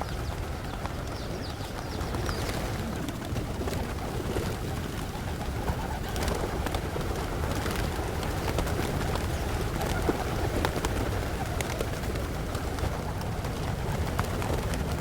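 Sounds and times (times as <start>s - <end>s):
pigeons cooing: 0.0s - 15.0s
small birds chirping: 0.0s - 15.0s.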